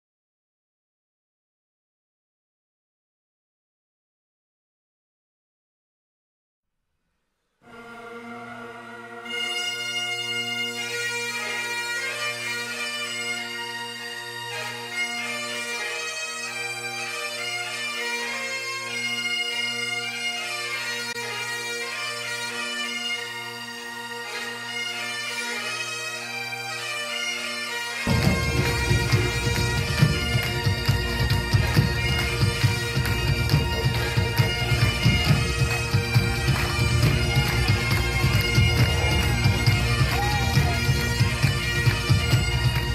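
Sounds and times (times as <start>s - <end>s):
bagpipes playing a tune: 7.6s - 42.9s.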